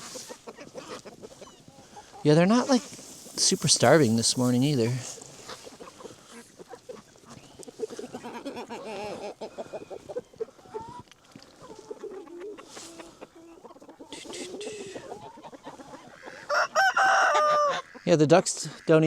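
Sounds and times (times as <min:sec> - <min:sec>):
poultry flock calling: 0:00.0 - 0:19.0.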